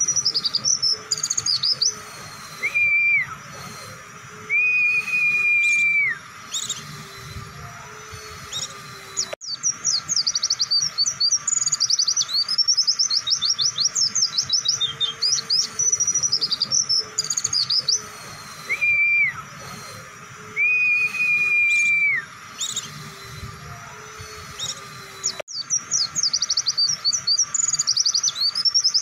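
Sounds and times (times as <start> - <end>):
bird whistles: 0.0 - 7.4, 8.0 - 29.0
bird chirps and trills: 0.0 - 29.0.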